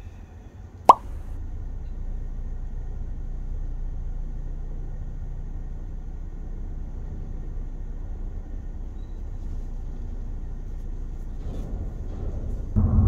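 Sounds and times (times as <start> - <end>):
car engine idling: 0.6 - 13.0.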